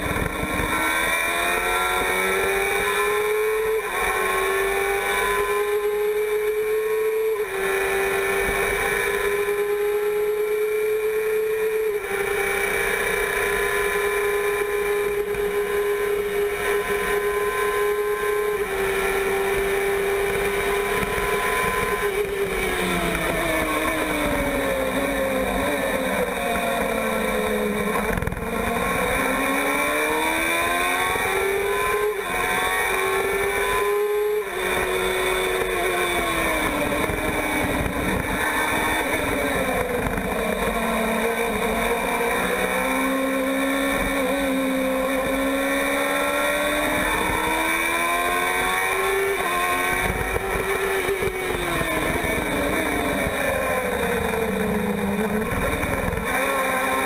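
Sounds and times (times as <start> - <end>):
racing car engine at full throttle: 0.0 - 57.0.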